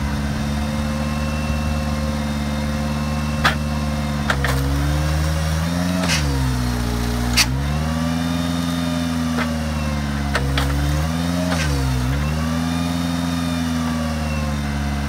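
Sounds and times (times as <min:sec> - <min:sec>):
engine running log splitter: 0:00.0 - 0:15.0.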